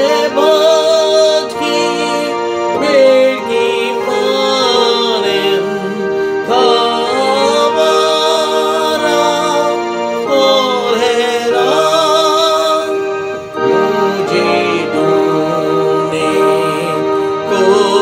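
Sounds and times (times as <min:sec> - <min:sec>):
keyboard chords: 0:00.0 - 0:18.0
person singing a hymn: 0:00.0 - 0:18.0.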